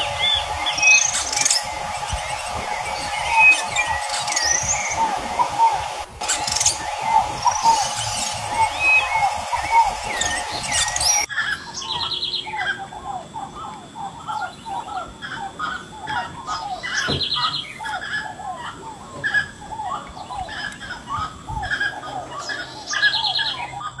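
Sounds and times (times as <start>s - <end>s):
down-slurred whistled bird notes: 0.0s - 23.9s
high rattling bird trill: 0.0s - 24.0s.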